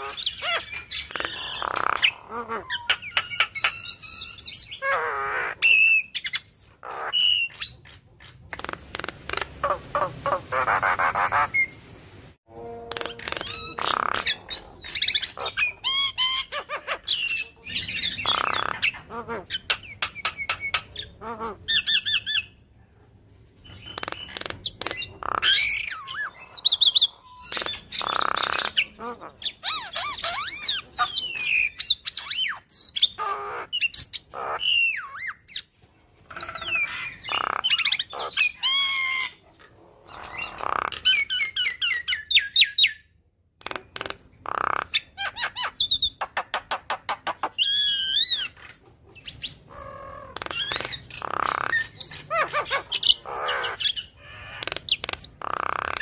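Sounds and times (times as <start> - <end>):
bird chattering song: 0.0 - 11.8, 12.9 - 22.6, 23.7 - 35.7, 36.4 - 39.4, 40.1 - 56.0.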